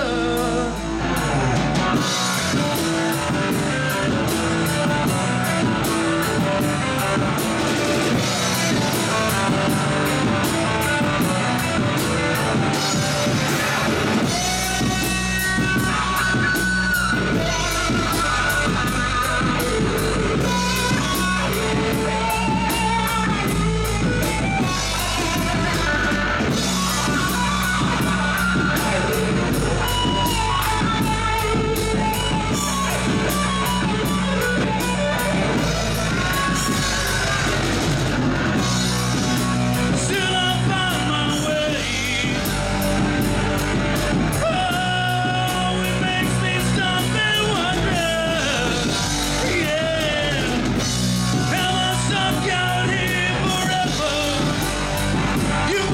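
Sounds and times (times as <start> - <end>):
man singing: 0.0 - 5.7, 8.1 - 37.9, 38.5 - 55.9
bass guitar: 0.0 - 55.9
drum kit: 0.0 - 55.9
electric guitar: 0.0 - 55.9.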